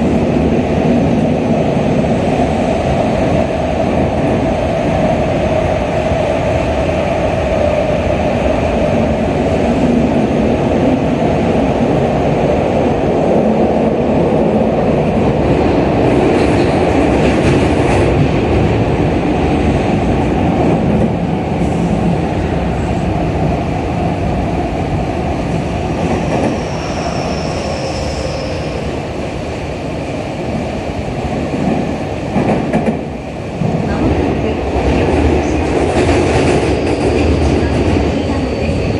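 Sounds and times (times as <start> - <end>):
train rumbling in tunnel: 0.0 - 38.9.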